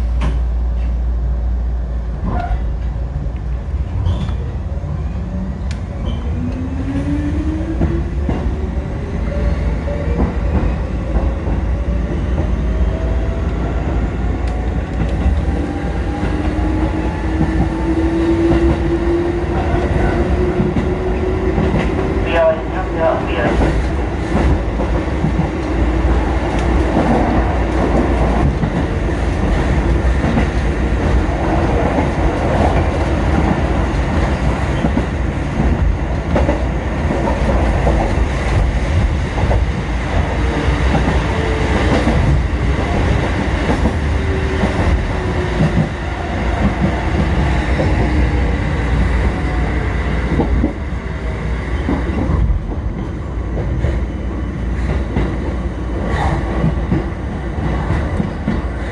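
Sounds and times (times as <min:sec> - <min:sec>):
train rumble: 0:00.0 - 0:58.9.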